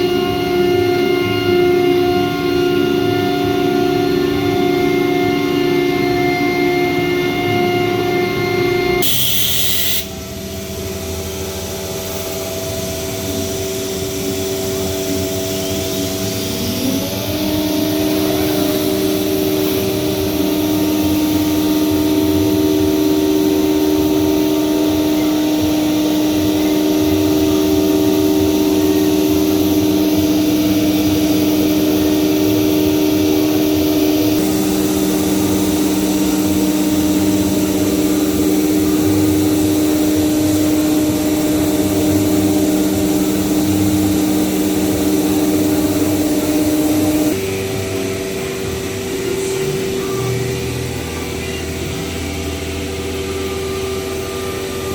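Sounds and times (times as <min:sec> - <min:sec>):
router machine whine: 0:00.0 - 0:54.9.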